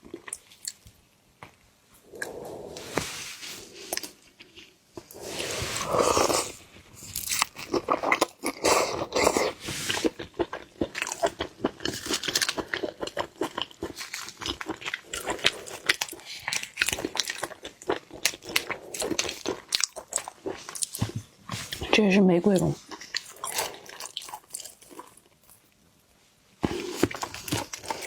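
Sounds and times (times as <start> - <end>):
chewing and crunching food: 0.0 - 3.0, 3.6 - 25.8, 26.6 - 28.0.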